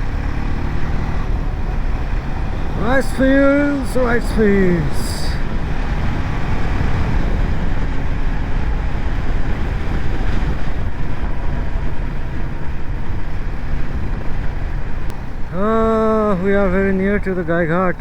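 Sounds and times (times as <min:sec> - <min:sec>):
motorcycle engine running: 0:00.0 - 0:17.1
wind rushing on microphone: 0:00.0 - 0:18.0.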